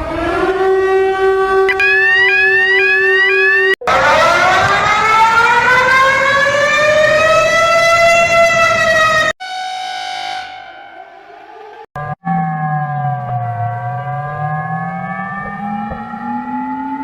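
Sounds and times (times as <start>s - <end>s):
siren winding up: 0.0s - 17.0s.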